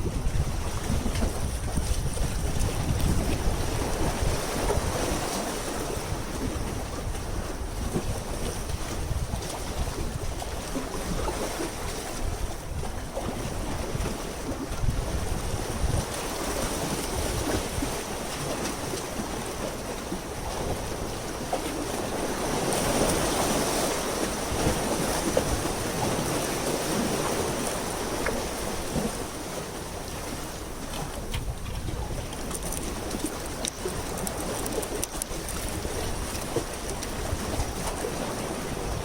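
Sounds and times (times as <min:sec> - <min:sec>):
water lapping: 0:00.0 - 0:39.0
wind buffeting microphone: 0:00.0 - 0:39.0.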